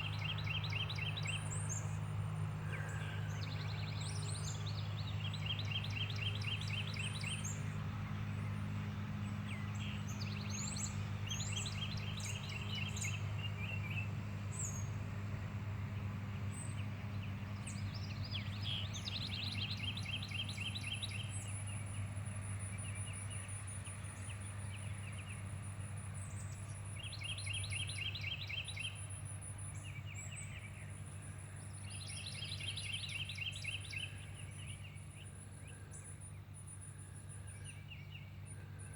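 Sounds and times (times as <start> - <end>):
songbirds chirping trills: 0.0 - 38.9.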